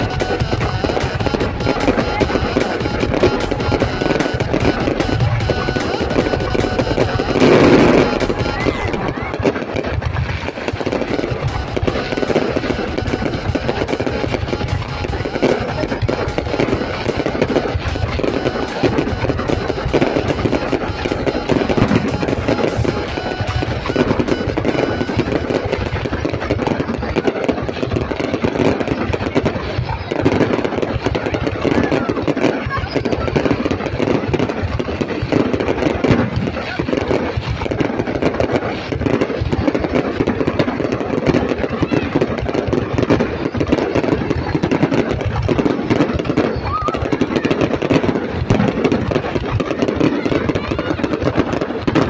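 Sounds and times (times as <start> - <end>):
crowd voices: 0.0 - 52.0.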